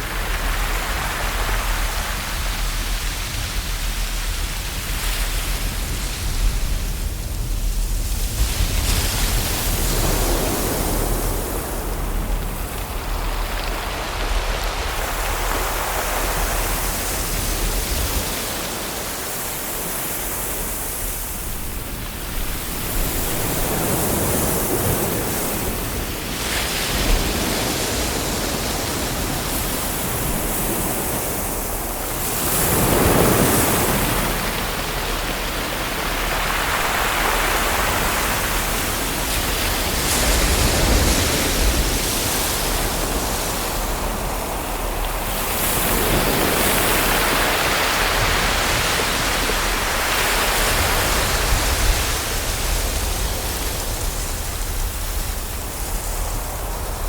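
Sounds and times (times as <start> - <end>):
hiss of surf: 0.0 - 57.0
ocean waves washing in: 0.0 - 57.0.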